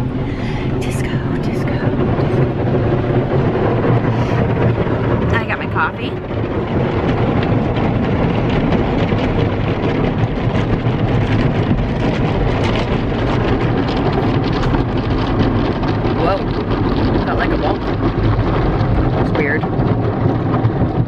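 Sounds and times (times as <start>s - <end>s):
car wash water rushing and pattering: 0.0s - 21.0s.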